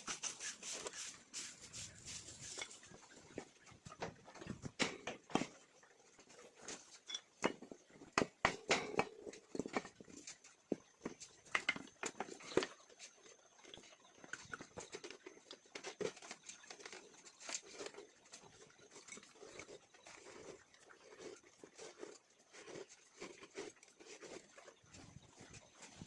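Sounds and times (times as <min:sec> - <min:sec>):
chickens pecking and scratching: 0:00.0 - 0:26.0.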